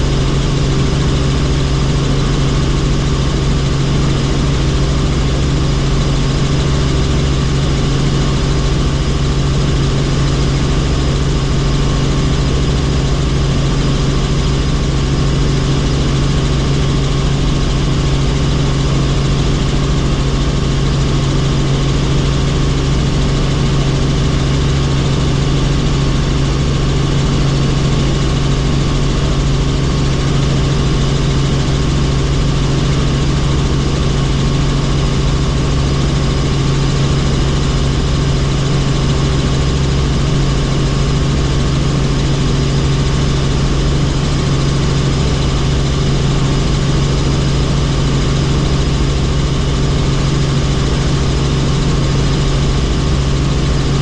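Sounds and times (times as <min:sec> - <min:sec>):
helicopter engine and rotors droning: 0:00.0 - 0:54.0.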